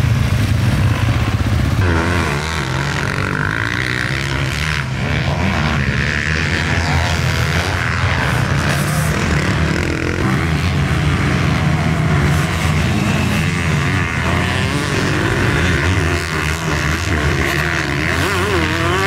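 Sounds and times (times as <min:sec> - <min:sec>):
motorbikes revving and accelerating: 0:00.0 - 0:19.0.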